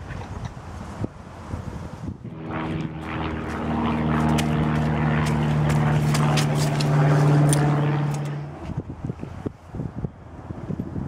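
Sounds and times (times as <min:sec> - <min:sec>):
engine drone: 0:01.3 - 0:10.8.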